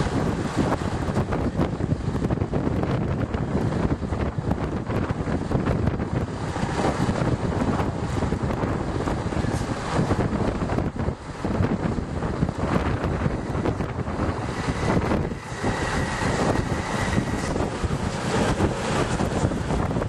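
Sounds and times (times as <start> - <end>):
lorry diesel engine rumble: 0.0 - 20.0
wind buffeting microphone: 0.0 - 20.0.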